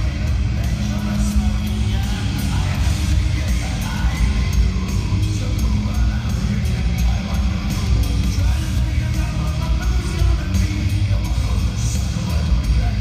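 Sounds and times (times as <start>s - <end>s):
rock music over sound system: 0.0s - 13.0s.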